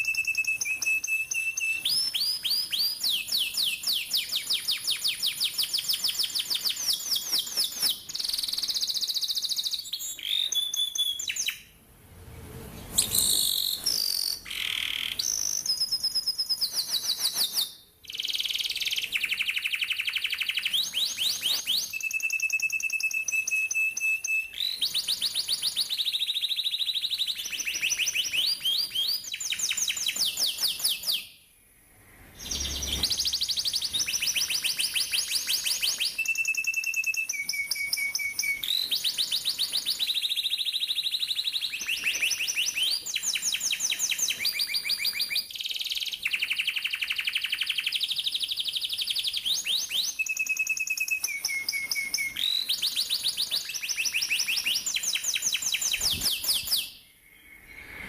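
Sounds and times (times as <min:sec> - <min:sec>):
canary singing trills: 0:00.0 - 0:11.6, 0:12.9 - 0:31.4, 0:32.4 - 0:58.0.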